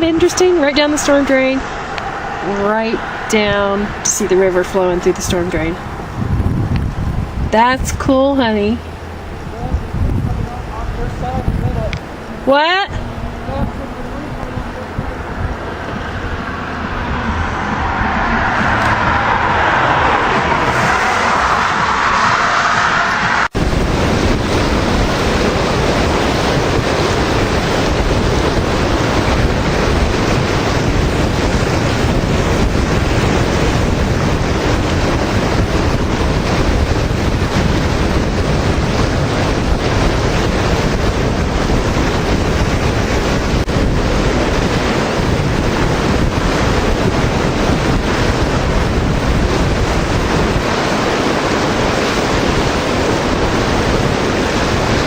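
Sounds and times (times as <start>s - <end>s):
flooding river rushing: 0.0s - 55.0s
wind buffeting microphone: 0.0s - 55.0s.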